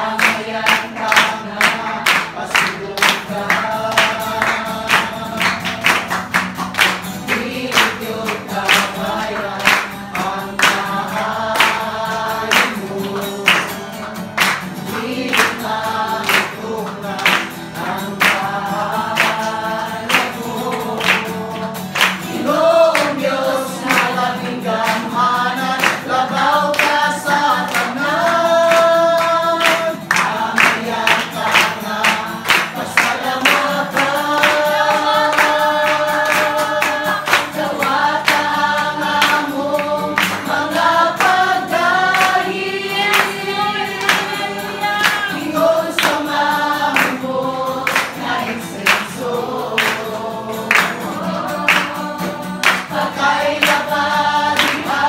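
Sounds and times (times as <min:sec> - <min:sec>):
group of voices singing: 0:00.0 - 0:55.0
strummed acoustic guitar: 0:00.0 - 0:55.0
woman singing worship song: 0:00.0 - 0:55.0.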